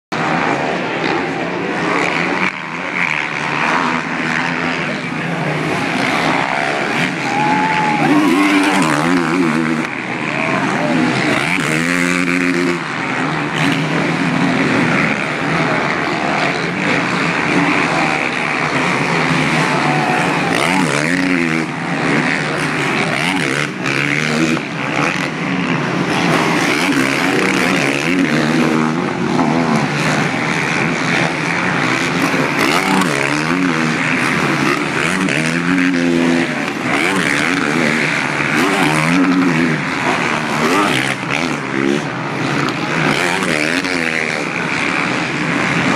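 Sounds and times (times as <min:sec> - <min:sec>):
motorbike engines revving: 0:00.1 - 0:45.9.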